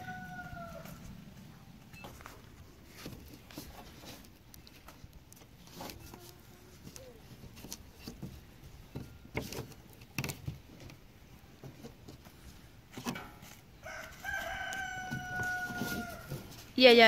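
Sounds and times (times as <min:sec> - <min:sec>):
sharp plastic crackles: 0:02.1 - 0:16.8.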